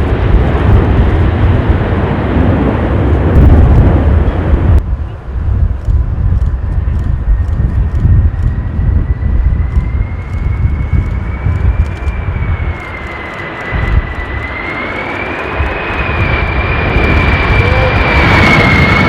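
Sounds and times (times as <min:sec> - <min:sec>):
jet engines whining: 0:00.0 - 0:19.0
wind on microphone: 0:00.0 - 0:19.0.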